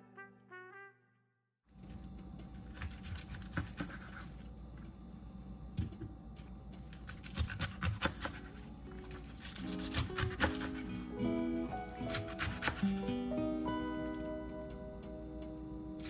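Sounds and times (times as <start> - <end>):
low steady hum: 1.7 - 16.0.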